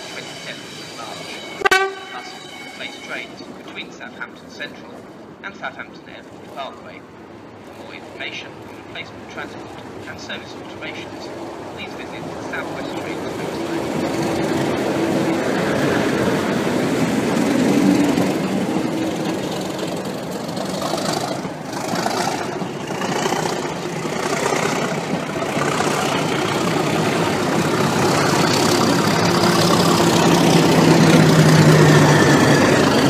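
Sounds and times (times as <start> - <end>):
diesel locomotive engine: 0.0 - 33.0
train coaches rolling on rails: 0.0 - 33.0.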